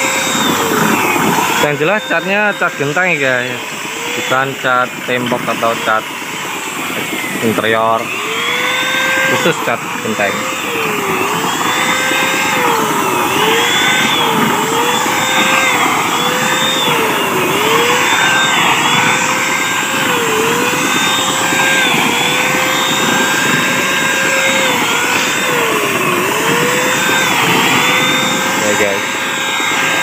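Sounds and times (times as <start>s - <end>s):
paint spray gun motor whine: 0.0s - 30.0s.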